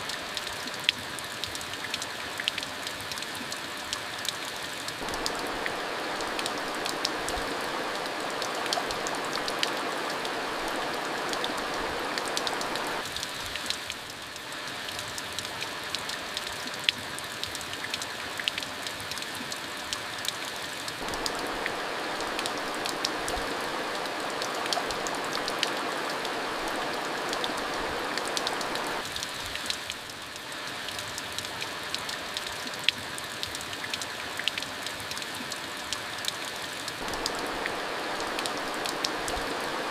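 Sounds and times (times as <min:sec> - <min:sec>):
sharp drip ticks: 0:00.0 - 0:39.7
steady rain hissing: 0:00.0 - 0:39.9.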